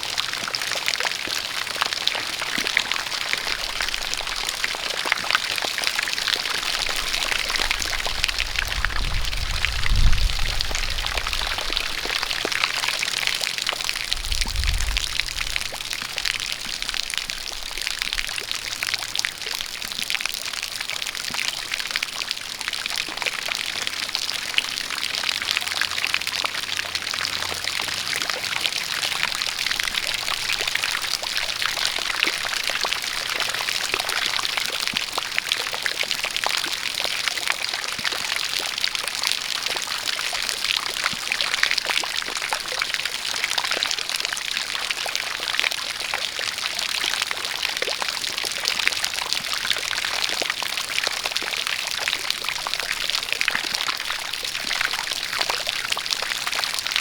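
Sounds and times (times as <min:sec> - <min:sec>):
rain pattering: 0:00.0 - 0:57.0
water pouring and splashing: 0:00.0 - 0:57.0.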